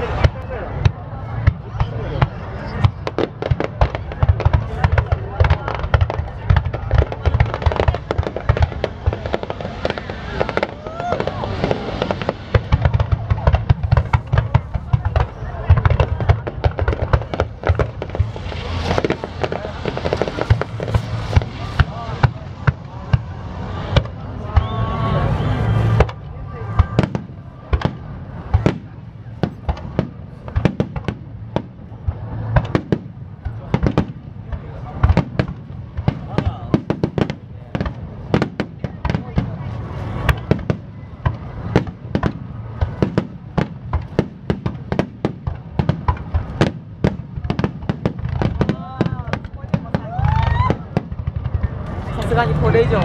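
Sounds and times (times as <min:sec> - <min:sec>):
deep fireworks booms: 0:00.0 - 0:53.0
fireworks bangs and crackles: 0:00.0 - 0:53.0.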